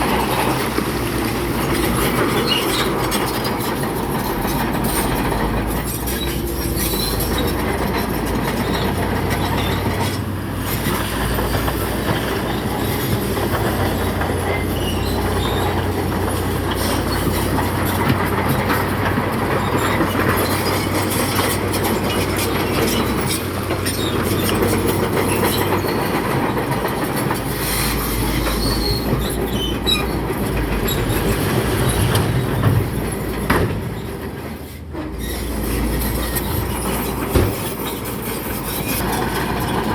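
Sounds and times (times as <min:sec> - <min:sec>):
diesel engine running: 0:00.0 - 0:39.9
steel tracks clanking and squealing: 0:00.0 - 0:39.9.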